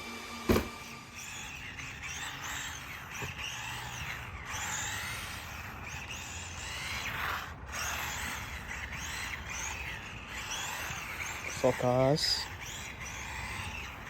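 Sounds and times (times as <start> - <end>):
electric motor and gears whining: 0.0 - 14.0.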